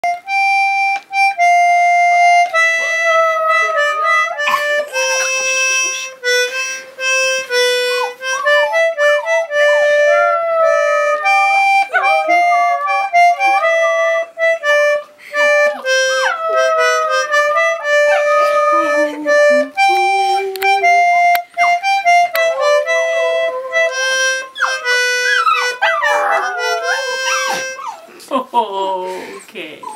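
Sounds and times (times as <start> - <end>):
concertina held notes: 0.0 - 28.0
puppy howling: 2.4 - 6.2, 7.5 - 28.2.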